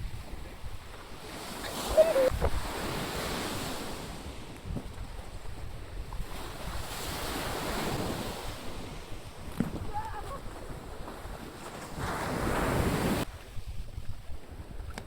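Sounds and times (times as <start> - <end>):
ocean waves breaking: 0.0 - 13.3
wind buffeting microphone: 0.0 - 15.0.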